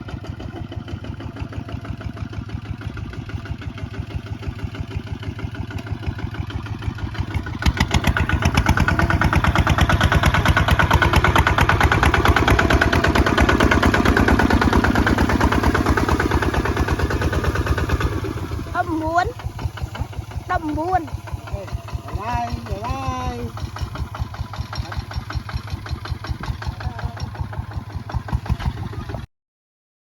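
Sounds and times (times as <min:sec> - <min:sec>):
diesel engine thudding: 0:00.0 - 0:29.2.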